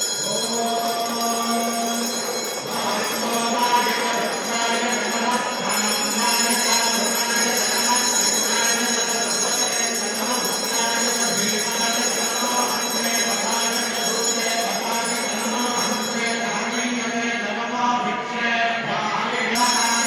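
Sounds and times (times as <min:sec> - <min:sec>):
bells jingling: 0:00.0 - 0:17.7, 0:19.5 - 0:20.0.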